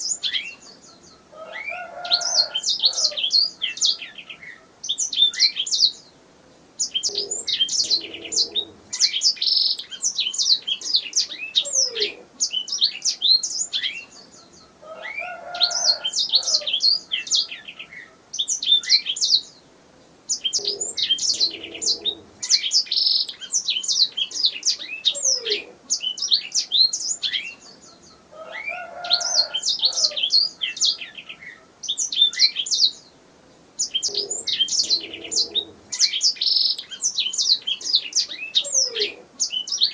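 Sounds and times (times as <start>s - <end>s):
canary singing trills and chirps: 0.0s - 6.2s, 6.8s - 19.6s, 20.2s - 33.2s, 33.8s - 39.9s.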